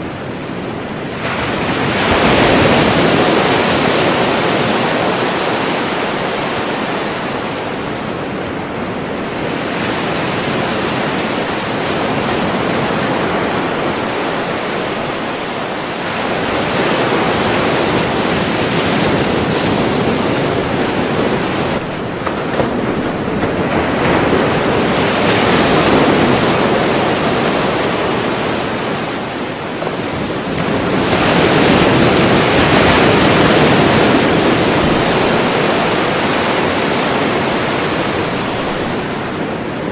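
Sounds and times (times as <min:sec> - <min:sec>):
ocean waves breaking in surf: 0:00.0 - 0:39.9.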